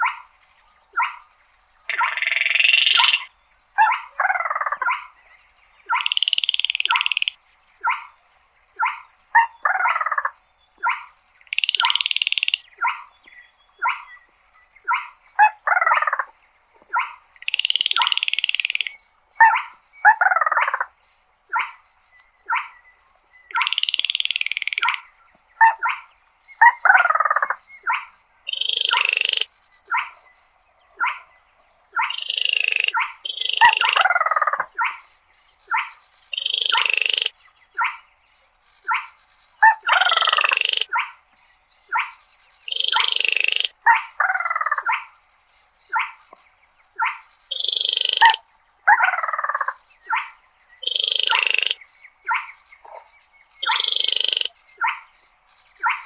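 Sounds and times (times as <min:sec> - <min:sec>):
bird calling with dry rattle: 0:01.8 - 0:05.2, 0:05.8 - 0:08.2, 0:08.8 - 0:14.1, 0:14.9 - 0:20.9, 0:23.5 - 0:31.3, 0:32.0 - 0:35.1, 0:35.7 - 0:41.2, 0:41.9 - 0:45.2, 0:45.9 - 0:48.4, 0:49.0 - 0:56.0.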